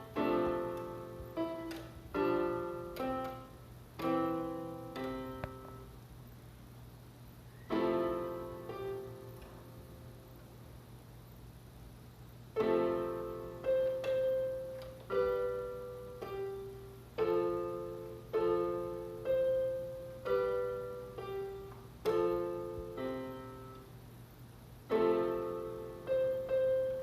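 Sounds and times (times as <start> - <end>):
slow piano notes: 0.0 - 6.0, 7.5 - 10.7, 12.5 - 24.1, 24.8 - 27.0
low steady hum: 0.0 - 27.0.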